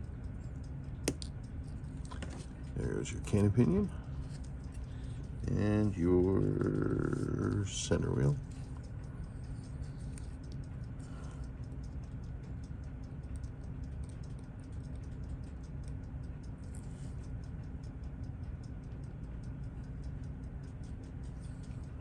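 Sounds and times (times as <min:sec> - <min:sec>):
low steady hum: 0:00.0 - 0:22.0
clock ticking: 0:02.7 - 0:22.0.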